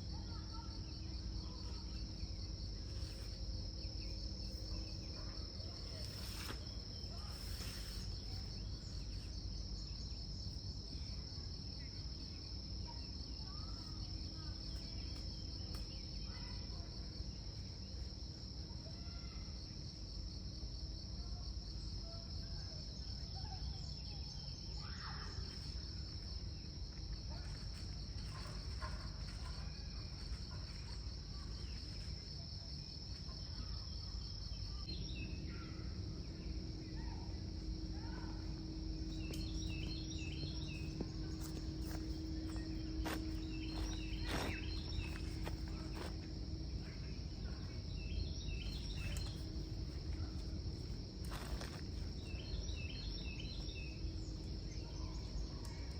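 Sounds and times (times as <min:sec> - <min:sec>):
high-pitched insect chorus: 0:00.0 - 0:55.9.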